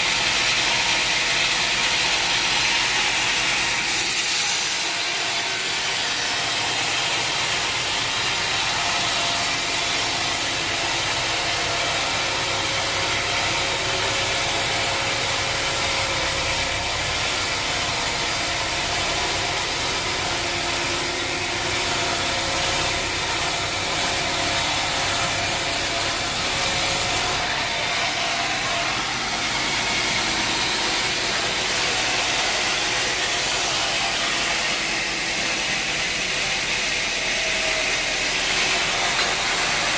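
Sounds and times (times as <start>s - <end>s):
saw rasping through log: 0.0s - 39.9s
machinery running: 5.1s - 39.9s.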